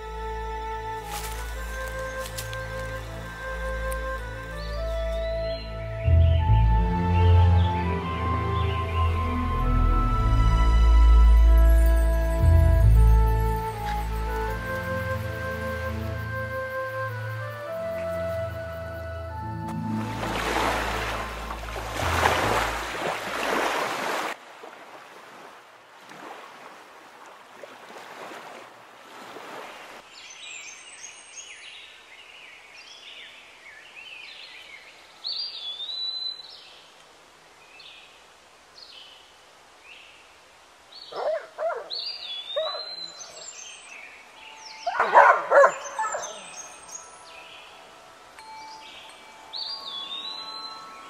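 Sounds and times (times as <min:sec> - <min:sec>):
songbirds chirping: 0:00.0 - 0:24.1, 0:29.6 - 0:51.0.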